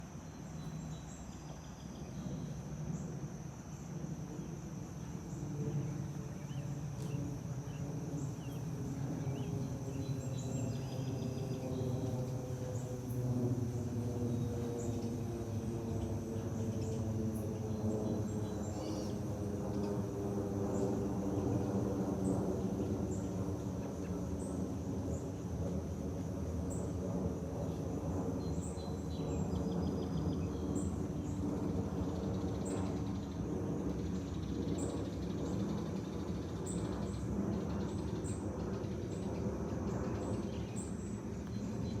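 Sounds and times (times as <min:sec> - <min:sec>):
airplane passing overhead: 0:00.0 - 0:42.0
insect chirps: 0:00.0 - 0:42.0
insect high-pitched drone: 0:00.0 - 0:42.0.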